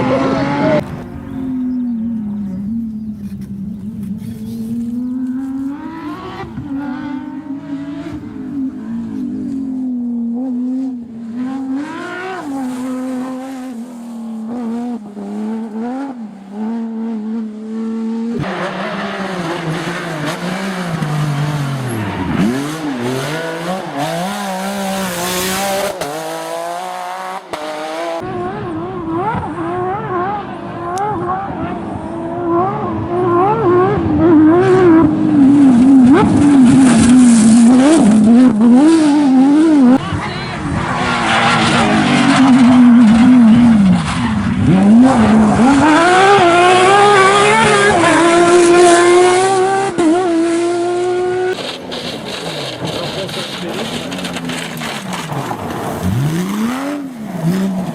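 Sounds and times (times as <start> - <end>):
racing car engines revving: 0.0 - 57.9.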